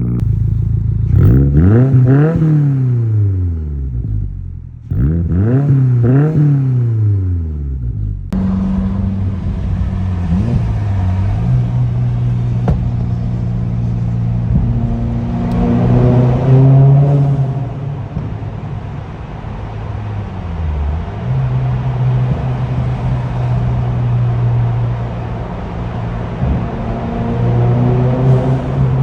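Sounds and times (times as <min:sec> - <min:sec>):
car engine exhaust note: 0:00.0 - 0:29.0.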